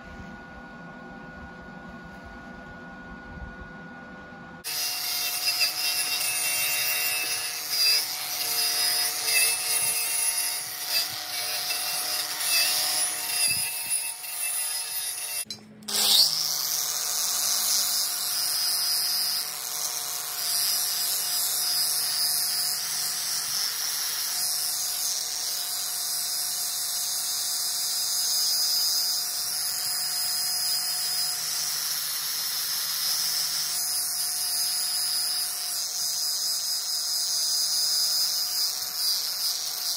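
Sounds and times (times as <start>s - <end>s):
angle grinder grinding metal: 4.6s - 39.9s.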